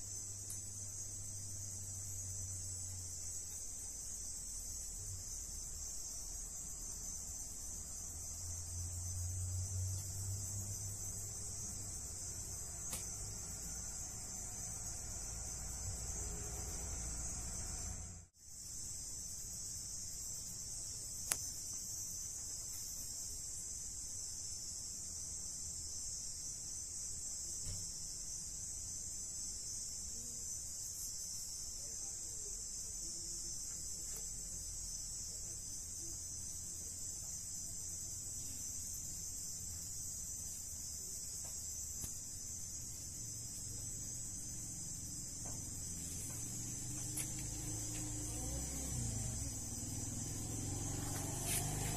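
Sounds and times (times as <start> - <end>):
crickets trilling: 0.0 - 51.9.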